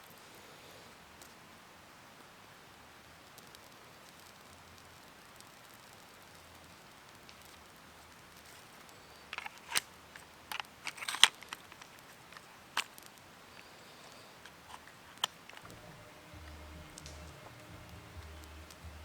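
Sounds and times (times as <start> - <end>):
sharp clicks and snaps: 3.2 - 19.0.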